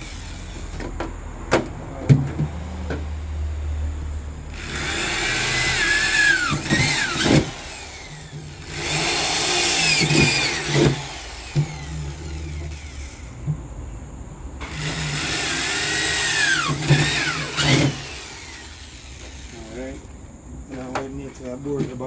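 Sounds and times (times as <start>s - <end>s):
power drill whining: 0.0s - 13.6s, 14.6s - 21.2s.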